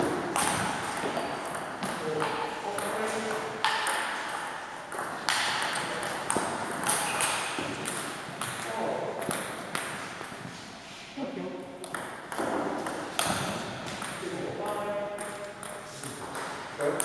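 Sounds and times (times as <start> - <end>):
table tennis ball hits echoing: 0.0 - 10.5, 11.8 - 17.0.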